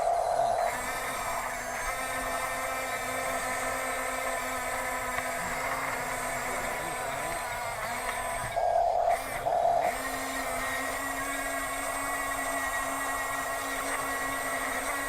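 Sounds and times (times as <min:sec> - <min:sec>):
toy electric motors whining: 0:00.0 - 0:15.0.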